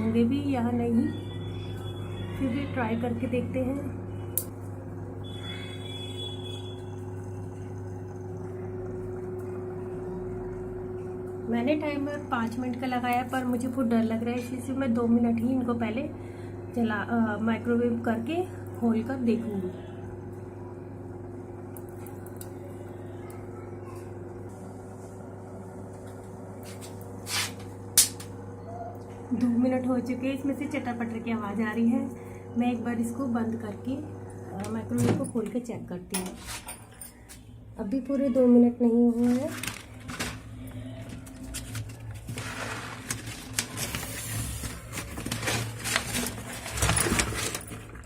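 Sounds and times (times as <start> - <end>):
microwave oven humming: 0.0 - 48.0.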